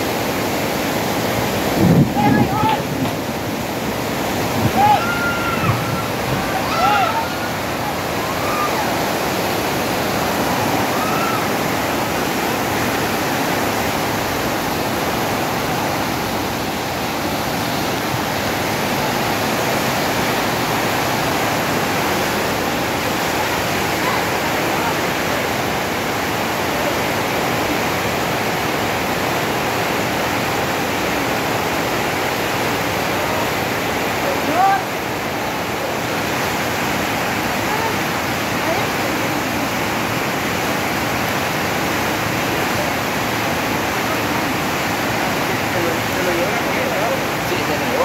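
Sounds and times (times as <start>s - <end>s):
flood torrent rushing: 0.0s - 48.0s.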